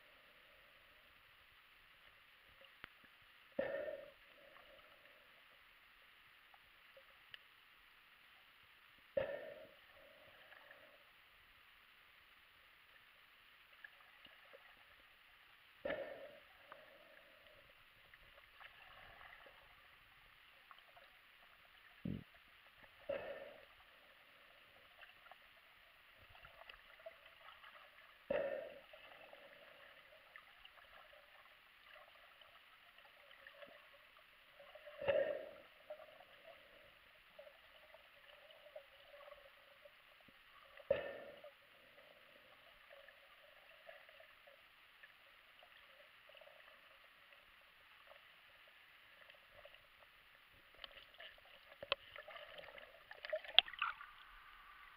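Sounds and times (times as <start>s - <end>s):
faint underwater hiss: 0.0s - 54.9s.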